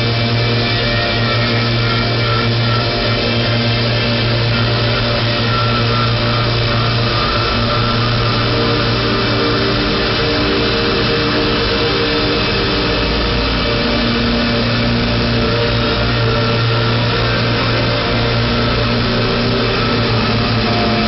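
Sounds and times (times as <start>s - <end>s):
droning electronic noise: 0.0s - 21.0s.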